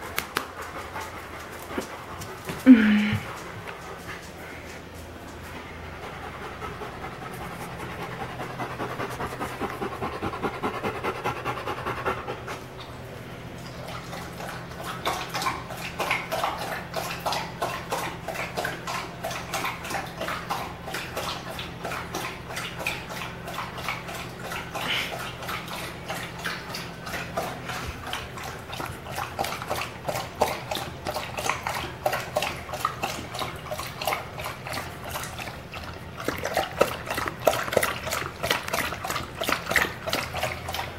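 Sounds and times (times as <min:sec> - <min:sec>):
dog panting: 0:00.0 - 0:13.0, 0:13.6 - 0:40.9
dog lapping water: 0:05.6 - 0:40.9.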